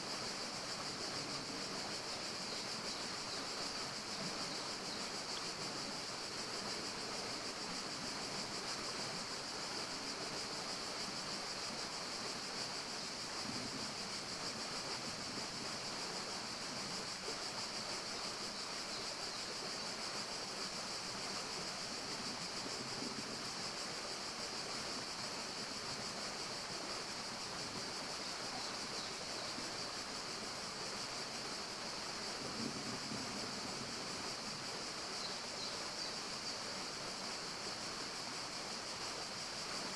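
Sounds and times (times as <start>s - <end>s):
constant high hiss: 0.0s - 39.9s.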